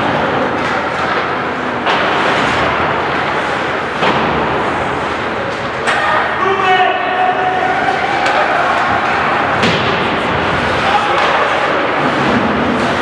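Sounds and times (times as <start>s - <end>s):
skating and crowd noise: 0.0s - 13.0s.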